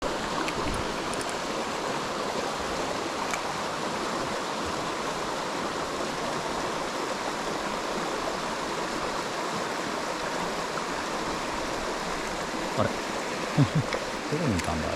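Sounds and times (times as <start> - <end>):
mountain stream rushing: 0.0 - 14.9.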